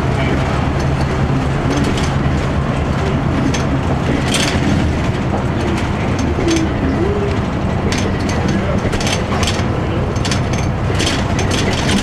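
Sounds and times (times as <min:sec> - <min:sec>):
bus diesel engine drone: 0:00.0 - 0:12.0
interior rattles and clicks: 0:00.0 - 0:12.0
road noise: 0:00.0 - 0:12.0.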